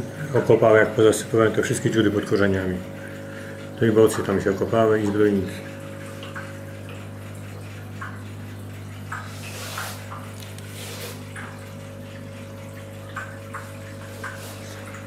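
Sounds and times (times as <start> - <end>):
low equipment hum: 0.0 - 15.0
water trickling: 0.0 - 15.0
water splashes: 0.3 - 15.0.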